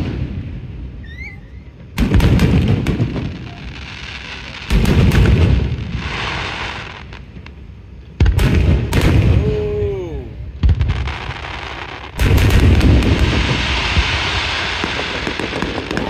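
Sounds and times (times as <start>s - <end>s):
fireworks booming: 0.0s - 16.0s
fireworks crackling hiss: 0.0s - 16.0s.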